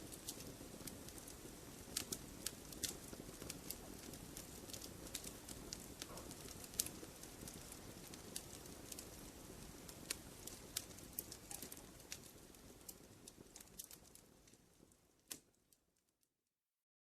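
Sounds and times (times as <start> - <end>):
low rush of burning: 0.0 - 15.2
wood fire crackling: 0.0 - 16.2.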